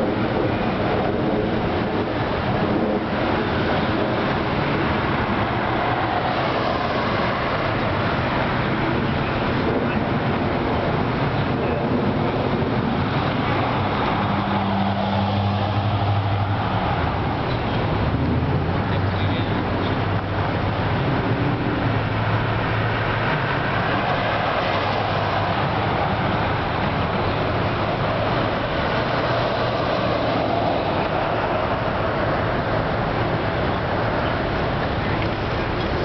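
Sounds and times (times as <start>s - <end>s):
car engines running: 0.0s - 36.0s
tyres on the road: 0.0s - 36.0s.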